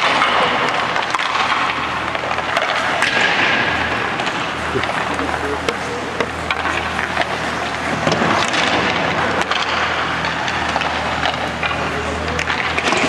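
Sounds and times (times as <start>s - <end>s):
sticks and pucks clicking: 0.0s - 3.5s, 4.2s - 13.0s
low steady hum: 0.0s - 13.0s.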